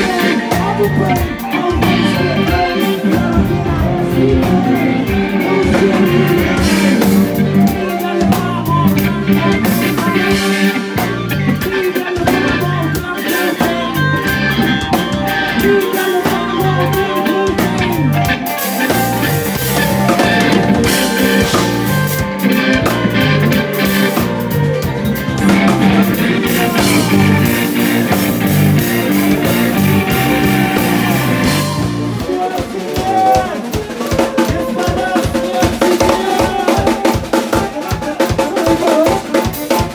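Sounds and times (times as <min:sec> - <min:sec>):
bass: 0:00.0 - 0:33.9
drum kit: 0:00.0 - 0:39.9
keyboards: 0:00.0 - 0:39.9.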